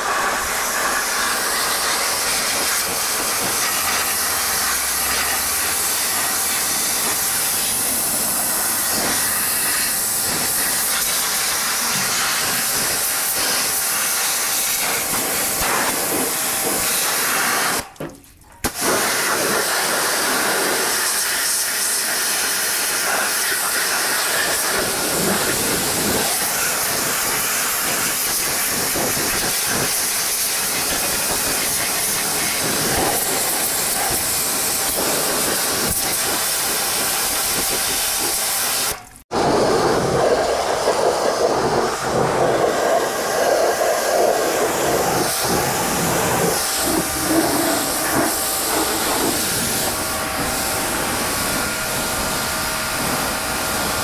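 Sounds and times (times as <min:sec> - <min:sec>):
pressure washer spraying metal: 0:00.0 - 0:54.0.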